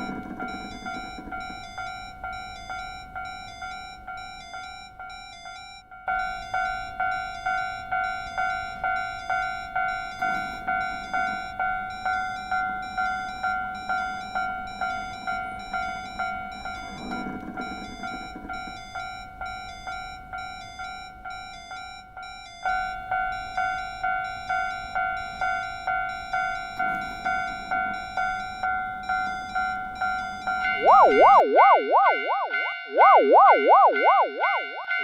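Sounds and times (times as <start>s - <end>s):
level crossing bell ringing: 0.0s - 35.0s.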